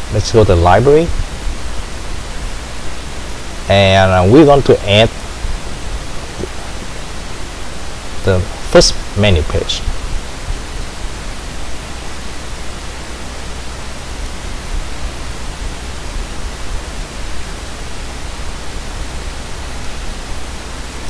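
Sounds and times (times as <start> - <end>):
low hum: 0.0 - 21.0
recording hiss: 0.0 - 21.0.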